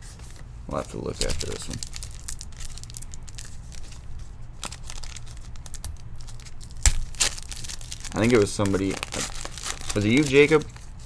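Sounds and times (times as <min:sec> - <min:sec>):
foil wrapper crinkling and tearing: 0:00.2 - 0:11.0.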